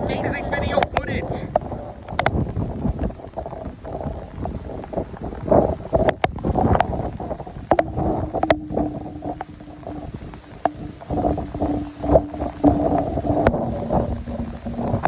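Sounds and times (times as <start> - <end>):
storm wind gusting on microphone: 0.0 - 15.0.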